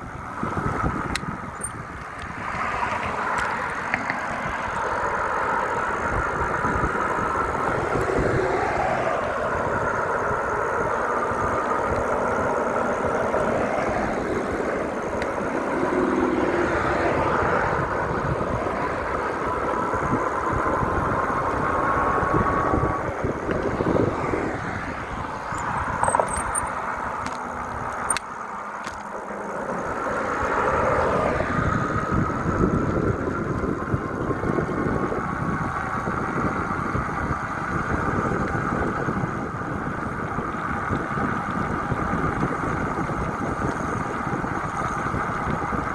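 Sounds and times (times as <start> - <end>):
faint engine tones: 0.0 - 45.9
road and vehicle noise: 0.0 - 45.9
wind buffeting microphone: 0.0 - 45.9.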